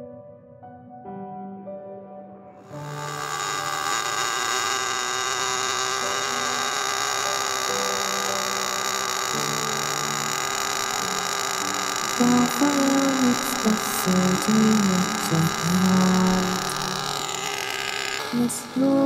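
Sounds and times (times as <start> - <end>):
nitro engine idling buzz: 2.6 - 19.0.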